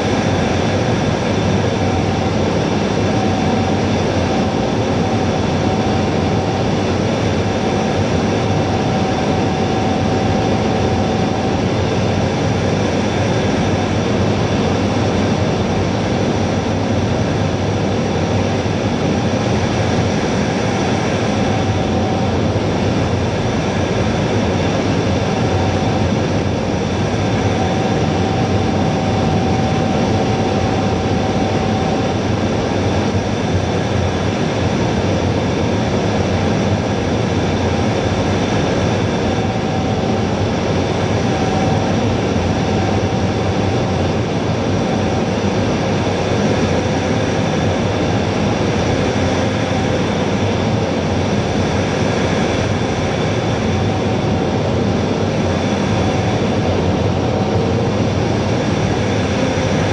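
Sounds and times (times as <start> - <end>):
faint high whine: 0.0 - 59.9
jet engines droning: 0.0 - 59.9.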